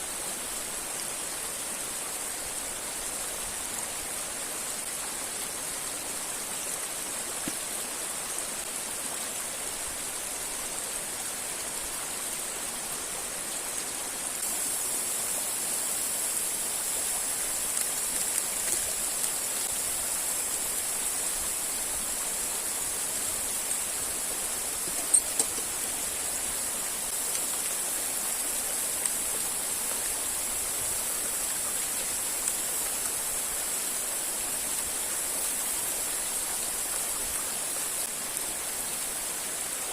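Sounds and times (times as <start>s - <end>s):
river and waterfall rushing: 0.0s - 39.9s.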